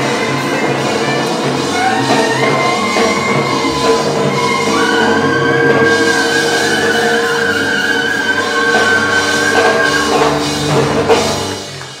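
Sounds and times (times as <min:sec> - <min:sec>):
saxophone holding high note: 0:00.0 - 0:11.7
drum hits: 0:00.0 - 0:12.0
sustained band chords: 0:00.0 - 0:12.0.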